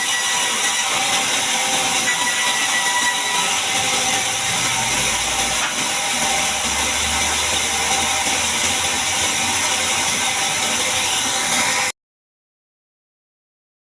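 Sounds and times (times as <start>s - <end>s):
band saw hissing and whining: 0.0s - 11.9s.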